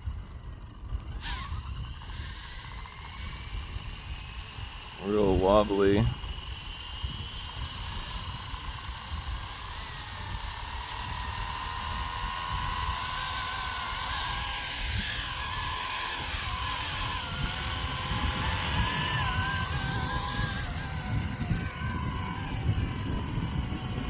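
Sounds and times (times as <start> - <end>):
rc helicopter rotor whine: 0.0 - 24.0
wind buffeting microphone: 0.0 - 24.0.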